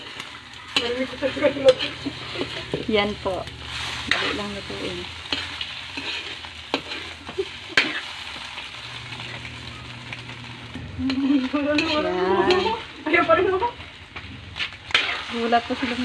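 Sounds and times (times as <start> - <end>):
metal spatula scraping a pan: 0.0 - 9.5, 11.0 - 13.8, 14.5 - 16.0
food sizzling in a wok: 0.0 - 16.0.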